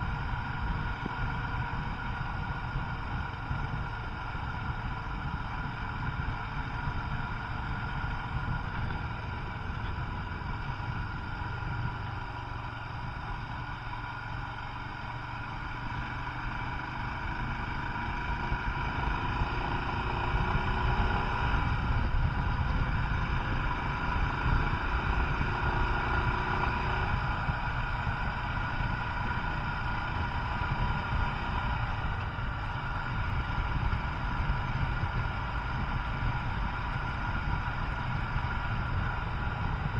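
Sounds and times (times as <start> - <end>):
wind rumble on microphone: 0.0 - 13.6, 18.5 - 39.9
motorcycle engine running: 0.0 - 39.9.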